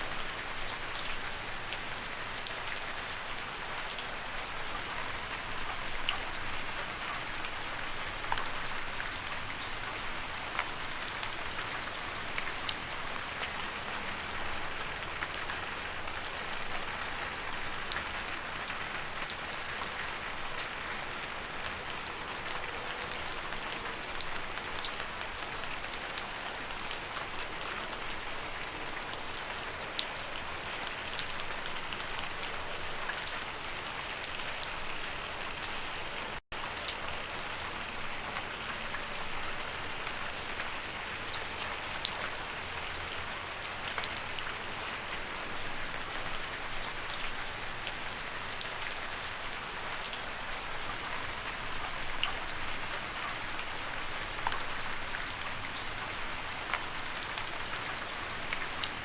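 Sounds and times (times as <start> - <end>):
raindrops ticking on a surface: 0.0 - 59.0.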